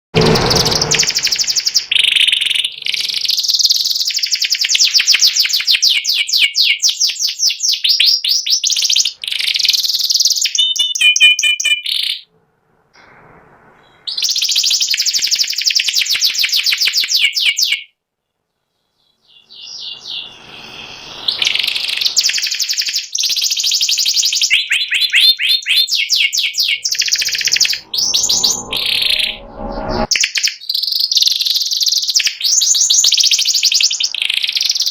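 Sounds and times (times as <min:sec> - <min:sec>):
canary singing trills: 0:00.2 - 0:12.3, 0:13.8 - 0:18.0, 0:18.7 - 0:34.9.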